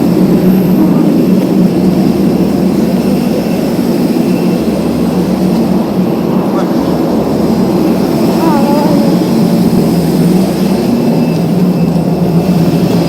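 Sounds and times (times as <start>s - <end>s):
jet aircraft drone: 0.0s - 13.0s.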